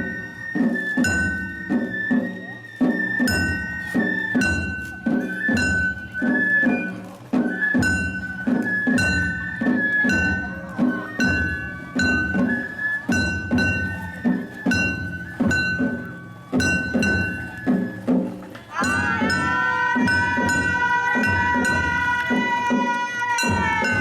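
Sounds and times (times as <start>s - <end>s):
bamboo flute long notes: 0.0s - 24.0s
metal percussion strikes: 0.0s - 24.0s
taiko drum beats: 0.0s - 24.0s.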